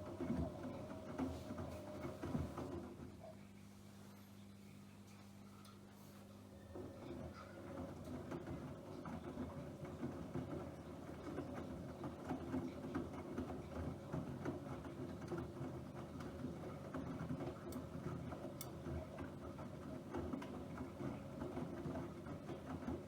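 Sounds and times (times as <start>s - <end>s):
washing machine running: 0.0s - 23.0s.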